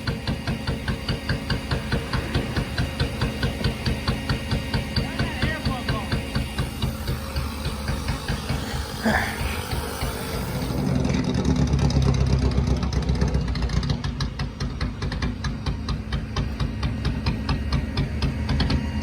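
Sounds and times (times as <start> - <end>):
engine backfiring pops: 0.0 - 19.0
race car engine running rough: 0.0 - 19.0.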